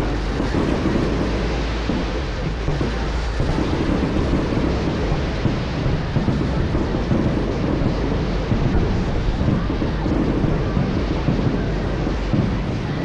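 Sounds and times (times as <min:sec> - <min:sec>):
fireworks crackling bursts: 0:00.0 - 0:13.0
wind noise on microphone: 0:00.0 - 0:13.0.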